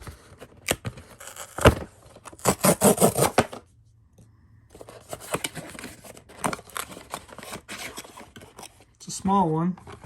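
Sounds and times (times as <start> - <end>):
packaging scraping and rustling: 0.0 - 3.6, 4.7 - 9.2.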